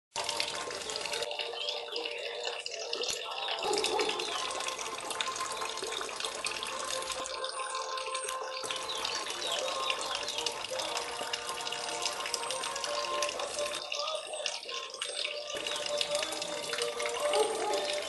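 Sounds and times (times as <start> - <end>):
water pouring from garden hose: 0.1 - 18.0.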